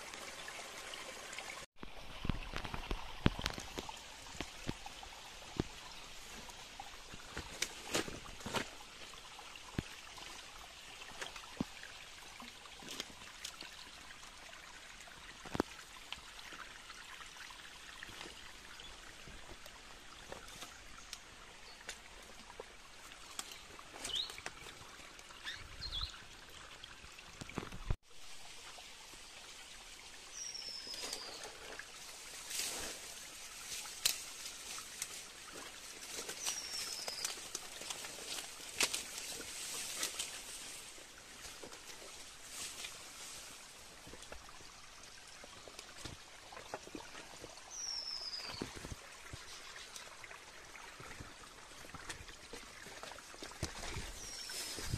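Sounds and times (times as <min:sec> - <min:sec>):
water trickling and pouring: 0:00.0 - 0:54.9.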